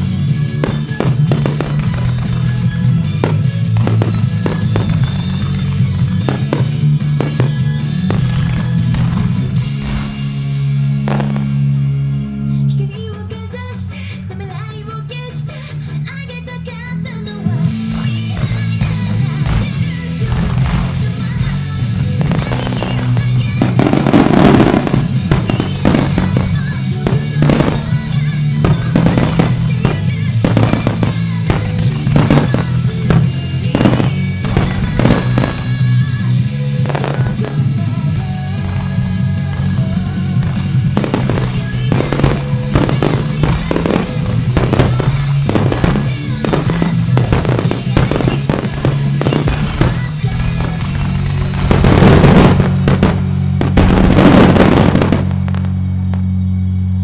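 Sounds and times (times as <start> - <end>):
fireworks bangs and crackling: 0.0 - 12.2, 17.2 - 56.4
loud music over loudspeakers: 0.0 - 57.0.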